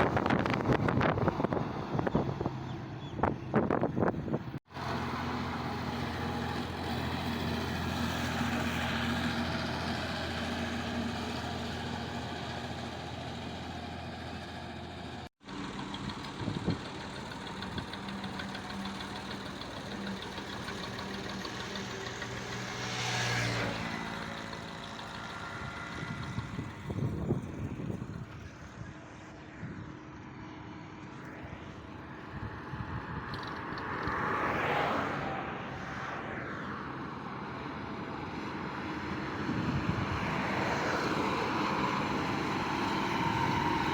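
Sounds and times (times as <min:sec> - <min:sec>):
truck engines humming: 0:00.0 - 0:29.2, 0:36.8 - 0:43.9
vehicles passing by: 0:00.0 - 0:43.9.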